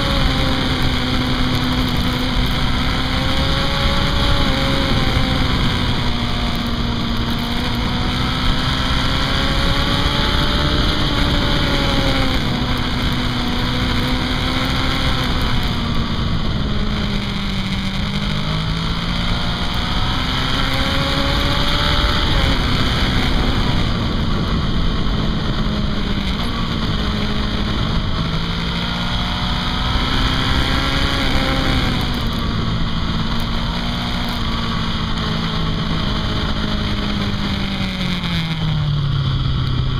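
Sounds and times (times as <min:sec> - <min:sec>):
motorcycle engine: 0:00.0 - 0:39.9
wind noise: 0:00.0 - 0:39.9.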